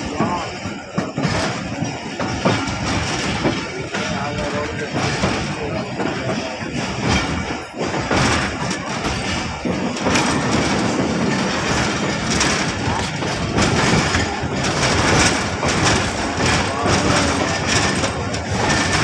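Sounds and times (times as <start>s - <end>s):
train locomotive rumble: 0.0s - 19.0s
wheels knocking over rail joints: 0.0s - 19.0s.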